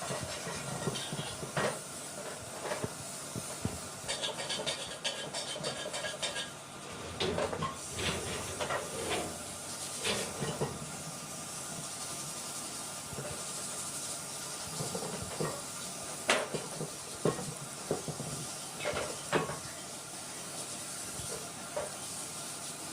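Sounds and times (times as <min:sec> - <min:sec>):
steady hissing: 0:00.0 - 0:22.9.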